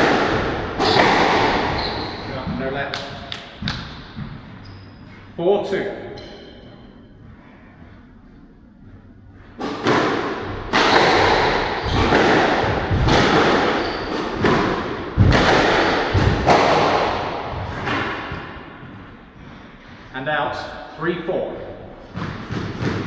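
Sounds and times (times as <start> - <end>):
squash ball hitting rackets and walls: 0.0 - 7.9, 9.5 - 23.0.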